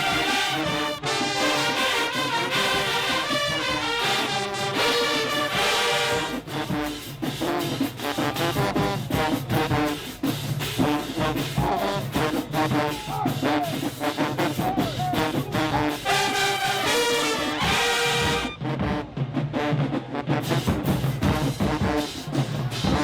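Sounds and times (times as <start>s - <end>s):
brass section playing: 0.0s - 23.0s
drum line beat: 0.0s - 23.0s.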